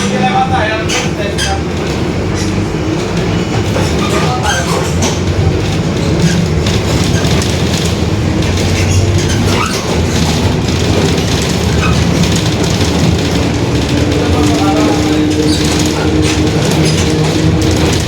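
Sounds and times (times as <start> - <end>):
diesel bus engine droning: 0.0 - 18.0
rattling of bus body: 0.0 - 18.0.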